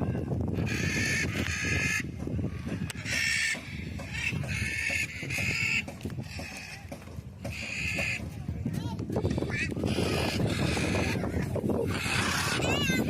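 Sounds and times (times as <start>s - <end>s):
macaws squawking: 0.6s - 8.3s, 9.2s - 13.0s.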